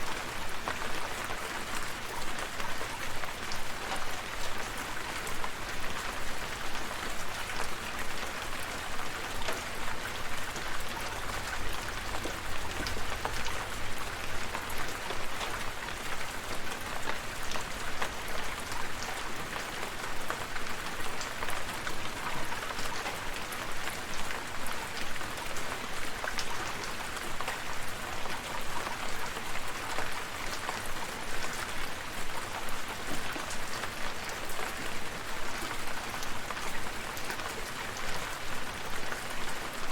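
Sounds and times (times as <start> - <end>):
raindrops pattering on a surface: 0.0 - 39.9
steady rain: 0.0 - 39.9.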